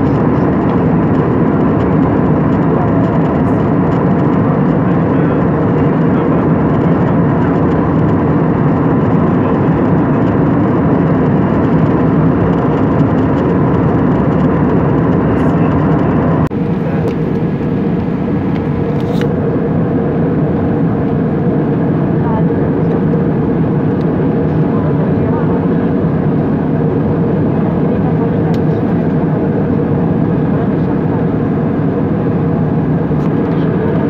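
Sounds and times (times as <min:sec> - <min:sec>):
airliner cabin engine rush: 0:00.0 - 0:34.0.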